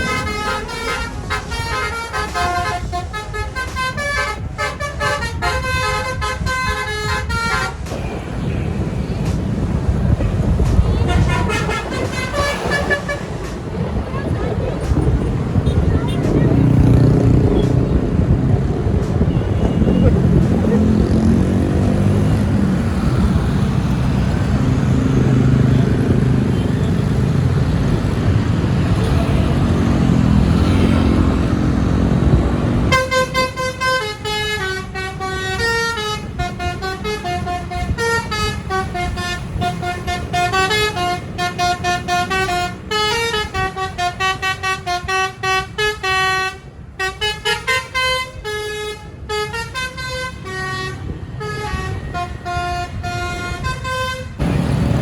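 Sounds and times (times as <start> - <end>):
musical bus horn melody: 0.0 - 7.9, 10.5 - 13.8, 15.4 - 54.5
vehicle engines rumbling: 0.0 - 55.0.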